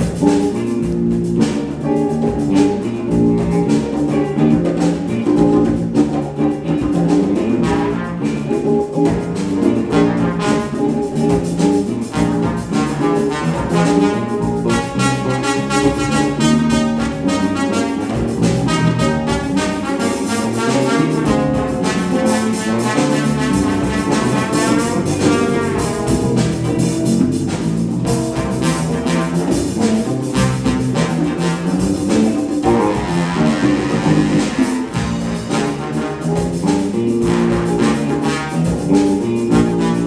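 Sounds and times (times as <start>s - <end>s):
congas: 0.0s - 40.0s
drums: 0.0s - 40.0s
electric bass: 0.0s - 40.0s
electric guitar: 0.0s - 40.0s
trombone lead line: 2.2s - 40.0s.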